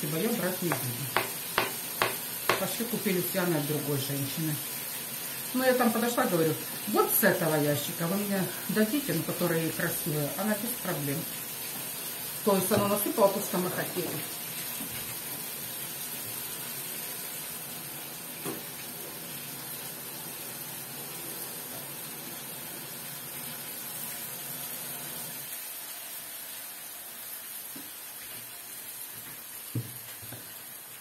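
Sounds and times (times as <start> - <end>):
mushrooms sizzling in a pan: 0.0 - 31.0.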